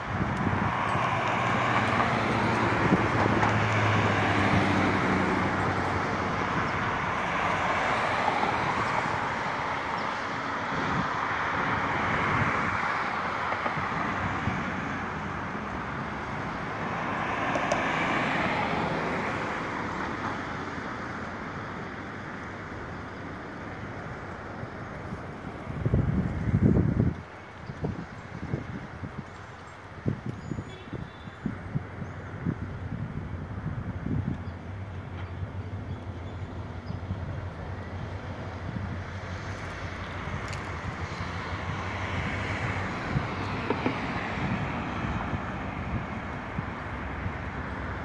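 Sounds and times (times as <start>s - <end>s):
cars passing: 0.0s - 48.0s.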